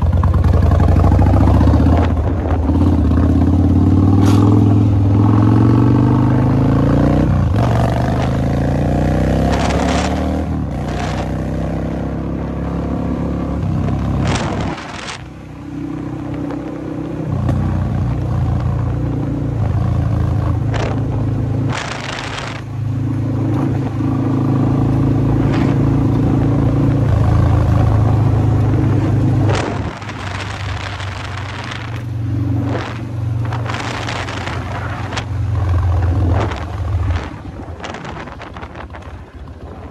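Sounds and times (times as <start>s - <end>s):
motorcycle engine running: 0.0s - 12.0s, 17.3s - 39.9s
wind gusts on microphone: 0.8s - 11.5s, 13.5s - 15.6s, 18.5s - 39.9s.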